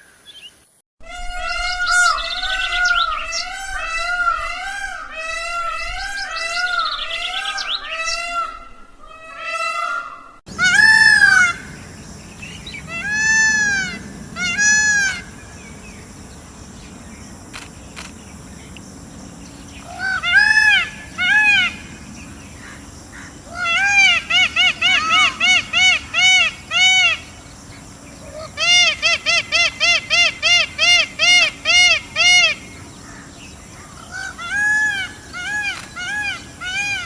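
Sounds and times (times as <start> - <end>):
peacocks wailing calls: 1.0 - 27.6, 28.2 - 37.0.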